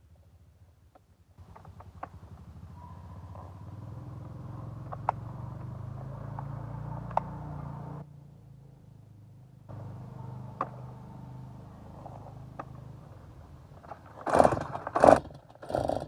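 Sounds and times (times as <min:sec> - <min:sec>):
engine running: 0:01.4 - 0:08.8, 0:09.7 - 0:16.0.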